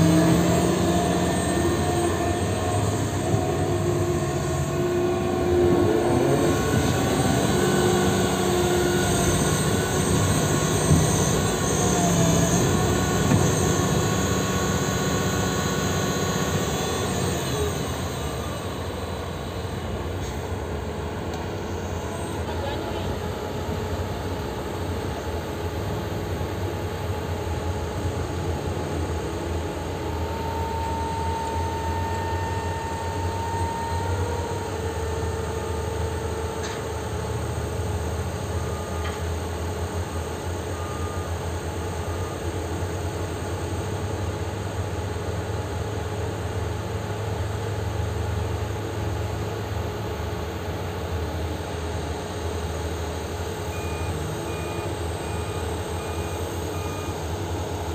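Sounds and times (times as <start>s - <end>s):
excavator diesel engine running: 0.0s - 57.9s
faint steady whine: 0.0s - 57.9s.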